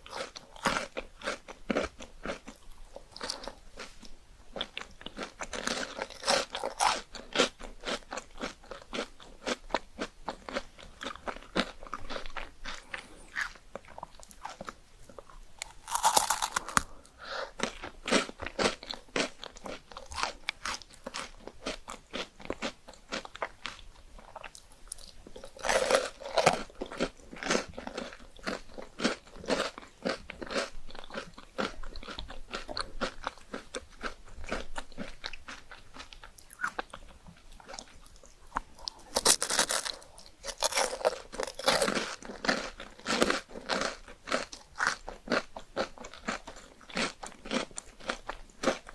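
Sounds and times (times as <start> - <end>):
chewing ice cream: 0.0 - 48.9.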